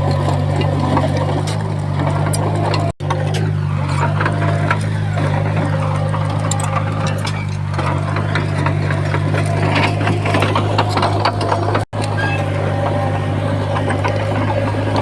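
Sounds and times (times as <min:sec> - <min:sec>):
clanks of metal stone and soil: 0:00.0 - 0:15.0
heavy machine diesel engine: 0:00.0 - 0:15.0.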